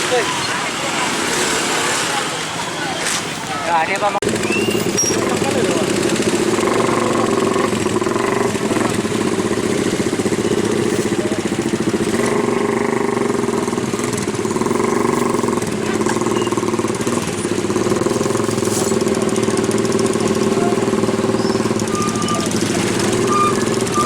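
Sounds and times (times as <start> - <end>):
large vehicle engine idling: 4.0 - 24.0.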